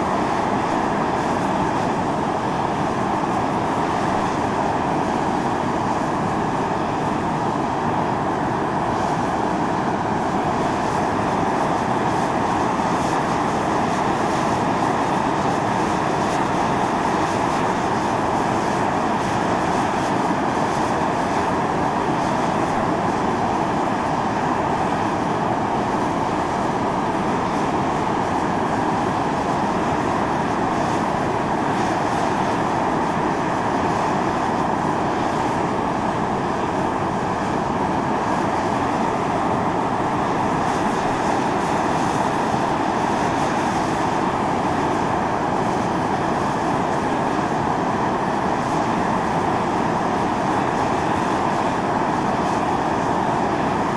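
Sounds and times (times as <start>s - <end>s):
fumarole steam hissing: 0.0s - 53.9s.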